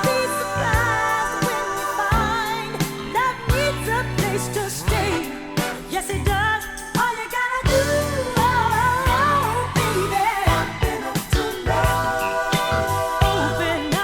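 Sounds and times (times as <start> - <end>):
funk soul song: 0.0 - 14.0.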